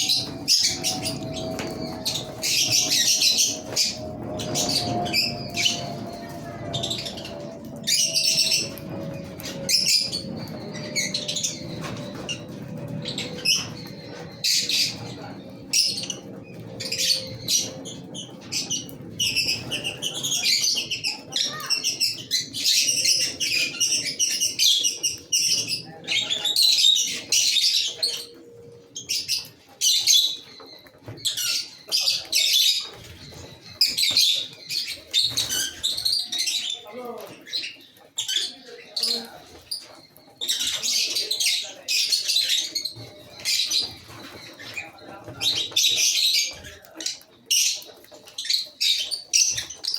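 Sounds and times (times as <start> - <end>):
lovebirds chirping and squawking: 0.0 - 49.9.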